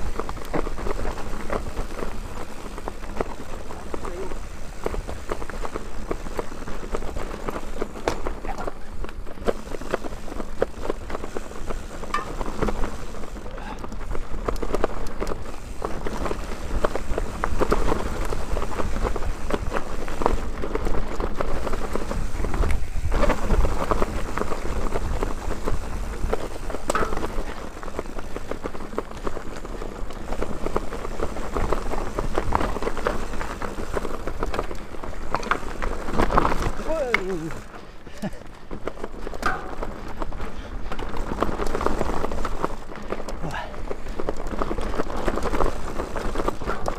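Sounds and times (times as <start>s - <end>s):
bike rattling and clattering: 0.0s - 46.9s
tyres rolling over dirt: 0.0s - 46.9s
wind rumble on camera: 0.0s - 46.9s.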